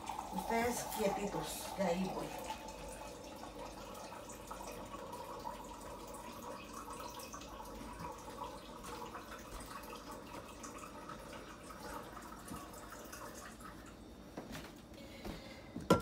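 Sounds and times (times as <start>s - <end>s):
faint running water: 0.0s - 16.0s.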